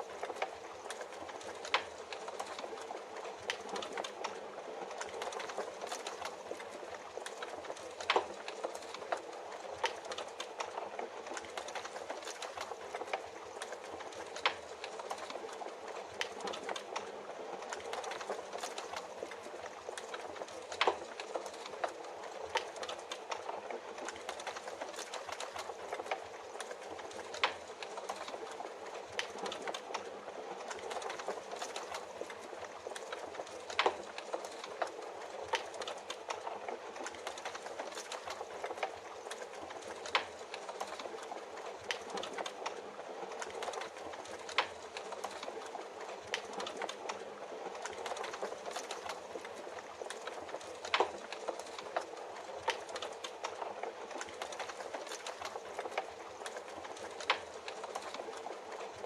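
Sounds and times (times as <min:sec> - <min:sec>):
steady rain hiss: 0:00.0 - 0:59.0
wood fire crackling: 0:00.0 - 0:59.0.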